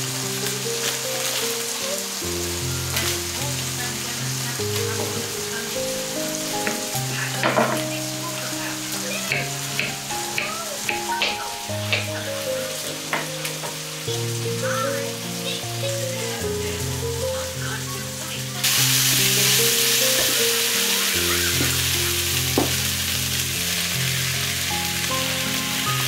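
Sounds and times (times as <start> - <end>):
soft background music: 0.0 - 26.0
steady hiss: 0.0 - 26.0.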